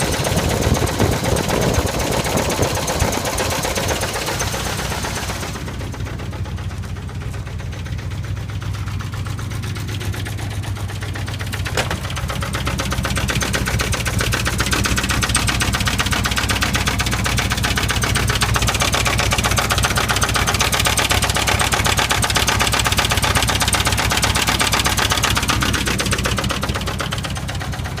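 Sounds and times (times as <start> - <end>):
engine running with a knock: 0.0 - 28.0.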